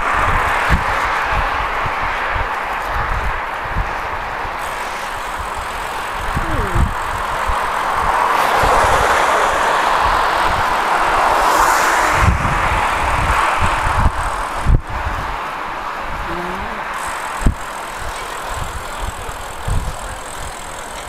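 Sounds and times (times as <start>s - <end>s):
wind rushing over microphone: 0.0s - 20.8s.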